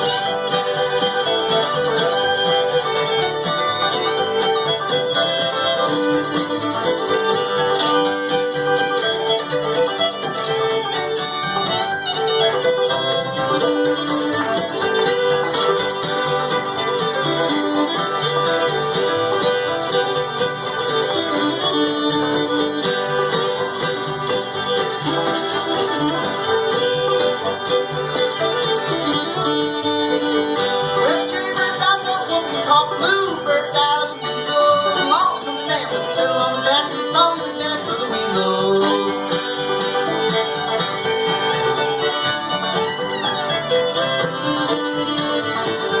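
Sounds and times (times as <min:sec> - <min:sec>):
fiddle: 0:00.0 - 0:46.0
plucked string accompaniment: 0:00.0 - 0:46.0.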